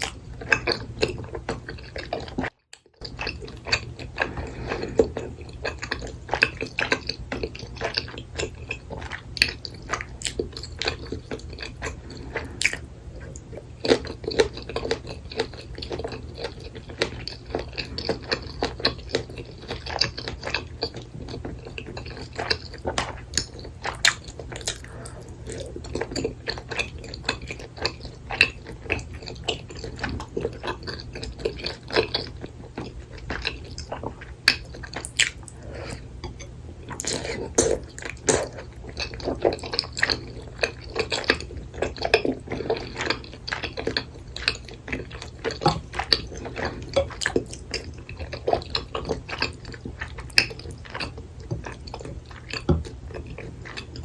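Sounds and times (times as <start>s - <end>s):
chewing and biting food: 0.0s - 54.0s
steady low hum: 0.0s - 54.0s.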